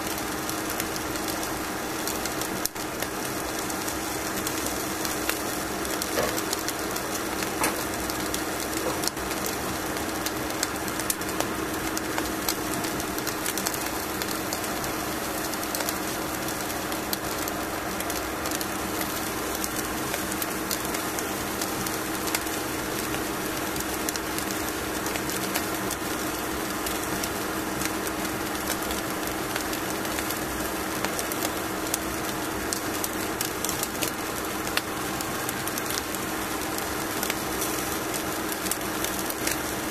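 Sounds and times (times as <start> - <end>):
fish sizzling in a pan: 0.1 - 39.9.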